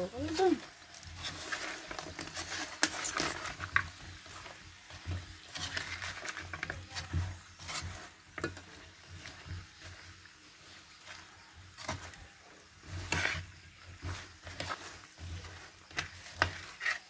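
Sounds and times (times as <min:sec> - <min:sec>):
light sizzling: 0:00.0 - 0:17.0
metal spatula scraping a wok: 0:00.0 - 0:17.0.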